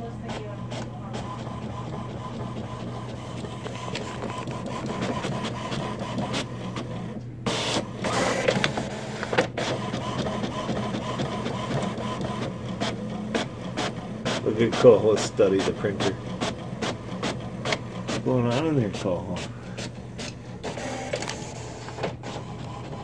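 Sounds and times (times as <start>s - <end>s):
inkjet printer printing: 0.0s - 23.0s.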